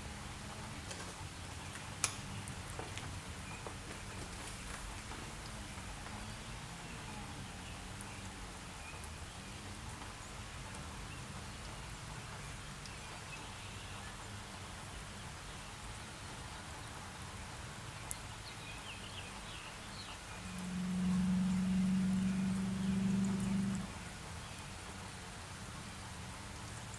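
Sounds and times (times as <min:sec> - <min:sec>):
light rain falling: 0:00.0 - 0:26.9.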